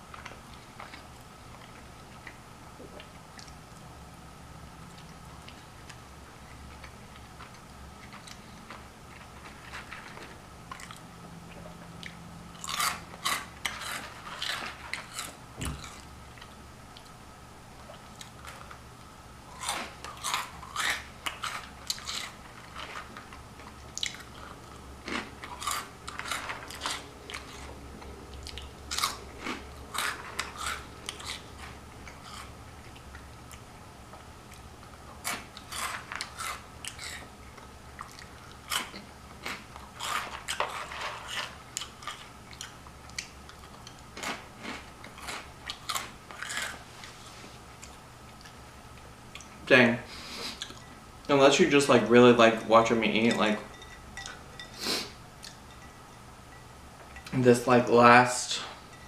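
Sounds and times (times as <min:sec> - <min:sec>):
crunching and chewing: 0:00.0 - 0:03.9, 0:04.8 - 0:17.2, 0:17.8 - 0:49.6, 0:50.2 - 0:51.0, 0:53.7 - 0:55.8
faint steady hum: 0:00.0 - 0:59.0.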